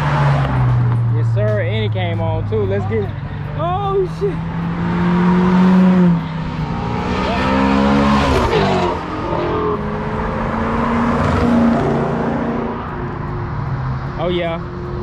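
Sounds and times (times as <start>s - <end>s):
car engines accelerating: 0.0s - 15.0s.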